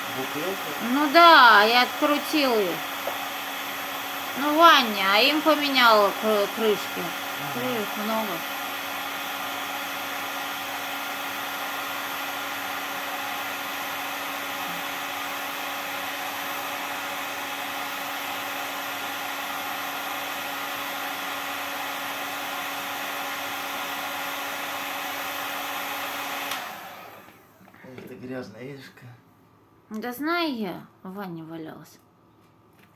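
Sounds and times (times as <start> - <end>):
heat gun blowing hot air: 0.0 - 27.6.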